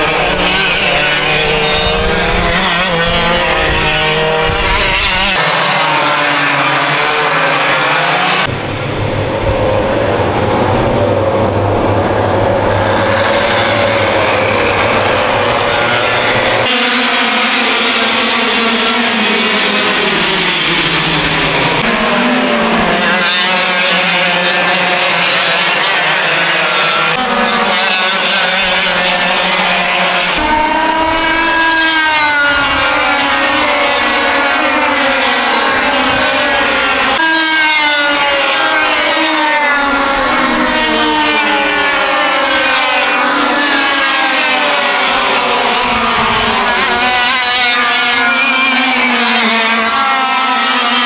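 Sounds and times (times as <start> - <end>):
kart engines revving: 0.0 - 51.0.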